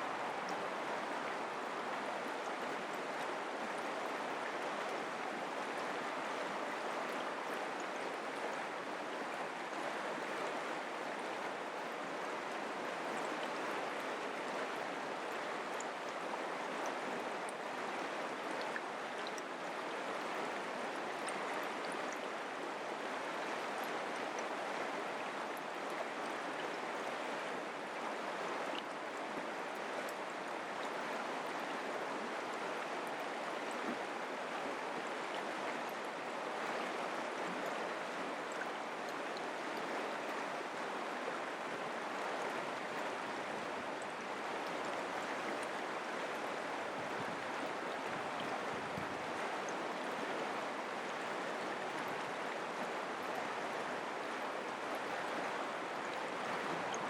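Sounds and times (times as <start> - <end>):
creek flowing over rocks: 0.0 - 57.0.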